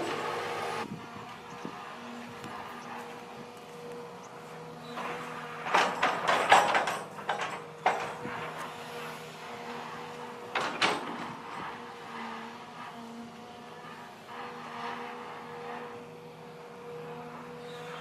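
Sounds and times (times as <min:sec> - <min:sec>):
excavator engine humming: 0:00.0 - 0:18.0.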